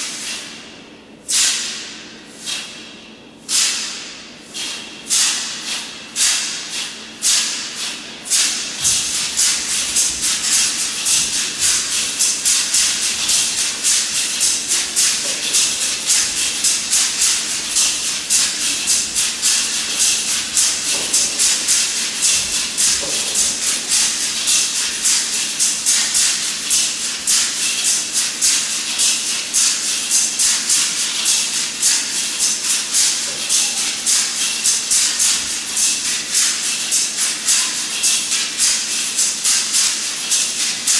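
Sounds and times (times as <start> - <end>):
audience clapping in rhythm: 4.7 - 40.9.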